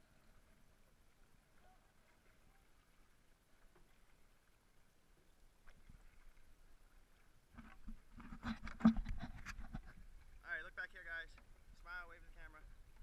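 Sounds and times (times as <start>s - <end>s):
water splashes from paddling: 0.0s - 13.0s.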